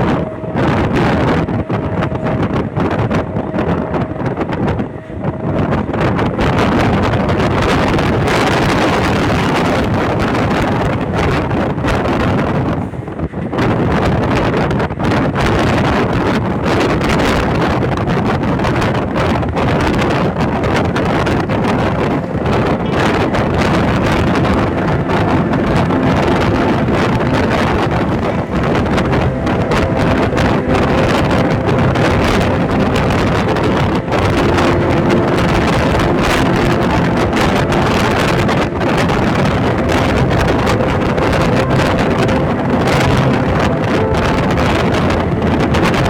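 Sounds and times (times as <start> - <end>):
train wheels rumbling on track: 0.0 - 46.0
wind buffeting microphone: 0.0 - 46.0.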